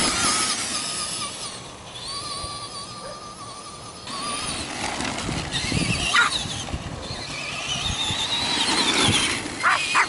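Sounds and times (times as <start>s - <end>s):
drone propellers whining: 0.0s - 10.0s
electric motor whine: 0.0s - 10.0s.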